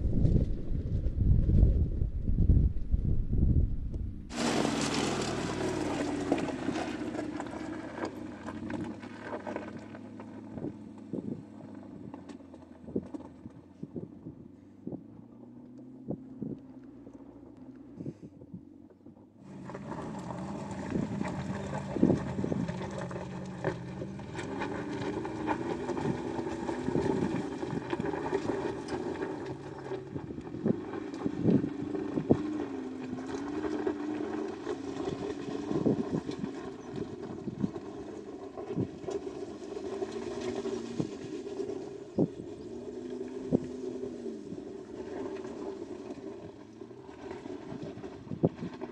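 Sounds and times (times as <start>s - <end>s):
suv engine climbing: 0.0s - 48.9s
stones clicking under tyres: 4.3s - 19.0s, 19.6s - 46.6s.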